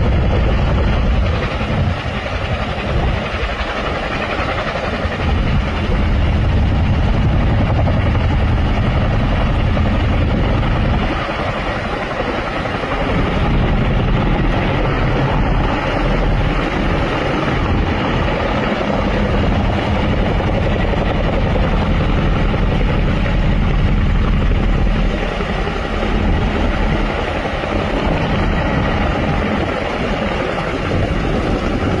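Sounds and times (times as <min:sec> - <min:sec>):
helicopter rotor beating: 0:00.0 - 0:32.0.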